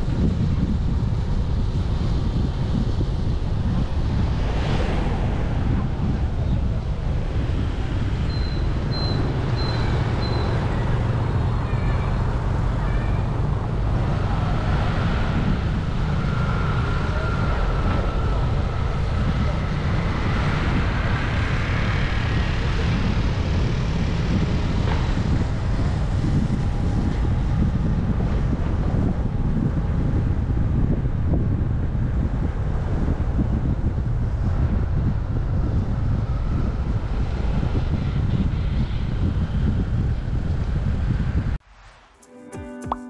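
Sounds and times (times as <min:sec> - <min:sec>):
wind rumble on microphone: 0:00.0 - 0:41.7
road and traffic noise: 0:00.0 - 0:42.2.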